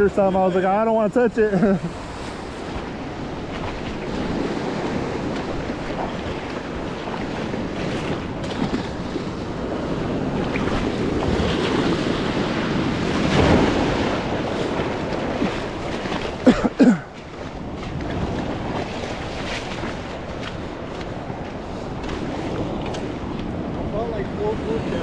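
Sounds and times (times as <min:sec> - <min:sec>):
surf washing on beach: 0:00.0 - 0:25.0
wind on microphone: 0:01.8 - 0:25.0.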